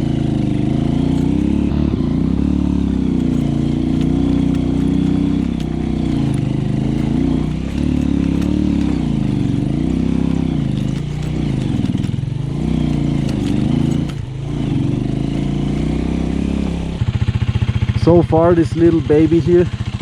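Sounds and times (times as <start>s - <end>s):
small motorcycle engine revving: 0.0s - 20.0s.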